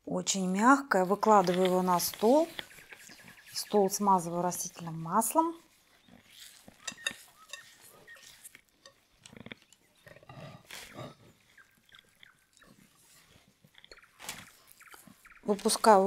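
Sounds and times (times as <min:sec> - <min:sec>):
dough squelching: 0:00.6 - 0:16.0.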